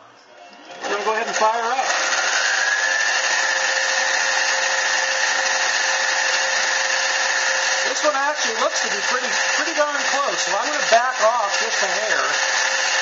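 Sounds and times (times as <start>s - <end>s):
lathe motor whining: 0.0s - 13.0s.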